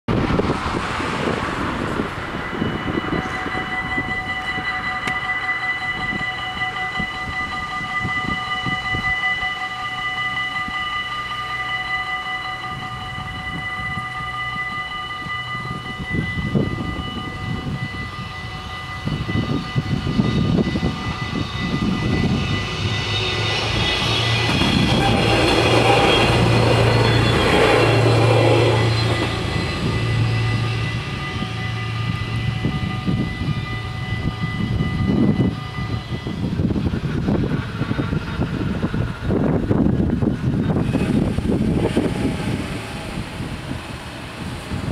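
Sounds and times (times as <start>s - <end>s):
diesel railcar passing: 0.1s - 44.9s
level-crossing warning bells: 0.1s - 44.9s.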